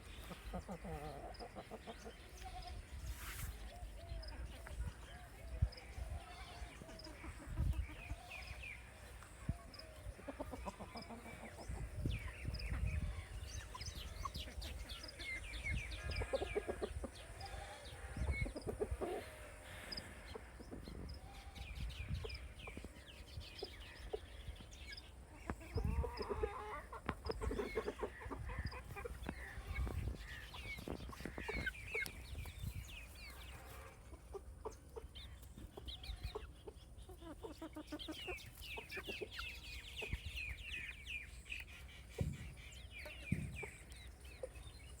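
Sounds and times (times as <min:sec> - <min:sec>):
baby chicks peeping: 0:00.0 - 0:45.0.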